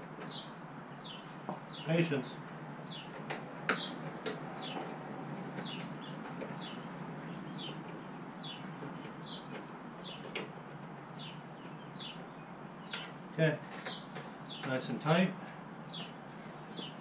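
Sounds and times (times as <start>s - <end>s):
small bird chirping: 0.2s - 2.0s, 2.8s - 10.5s, 11.1s - 14.8s, 15.8s - 17.0s.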